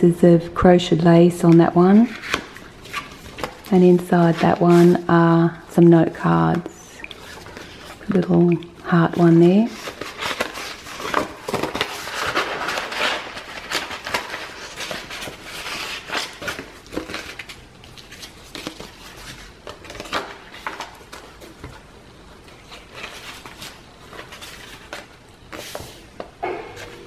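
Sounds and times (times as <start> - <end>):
thick paper pages turning: 1.4 - 27.0.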